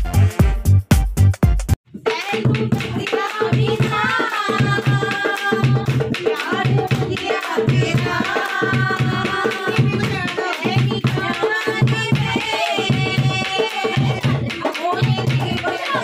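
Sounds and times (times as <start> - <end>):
voices singing: 2.1 - 16.0.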